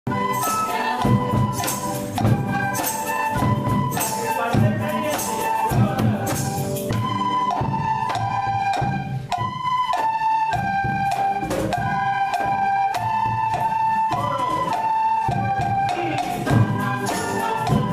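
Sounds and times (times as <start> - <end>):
fast shaker percussion: 0.1 - 17.9
sustained melody line: 0.1 - 17.9.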